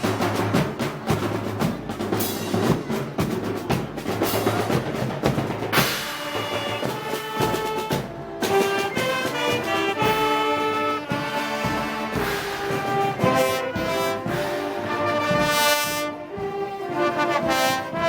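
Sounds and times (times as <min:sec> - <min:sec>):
brass and wind instruments: 0:00.0 - 0:18.0
drums and cymbals beating: 0:00.0 - 0:18.0.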